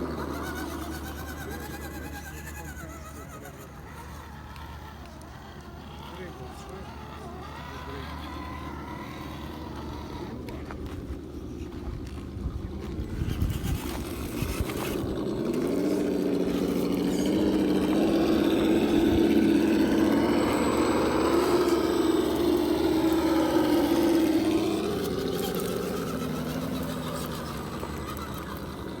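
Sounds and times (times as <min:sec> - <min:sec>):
simulated engine sound: 0:00.0 - 0:29.0.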